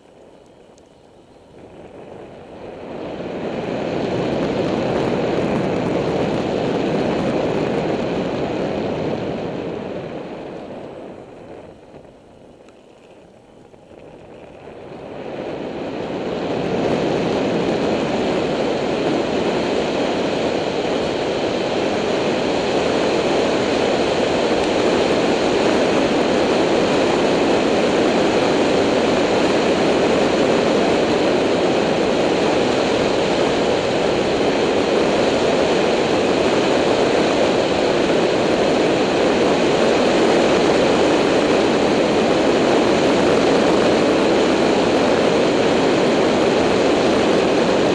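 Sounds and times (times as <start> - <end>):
wind noise on microphone: 0.0 - 47.9.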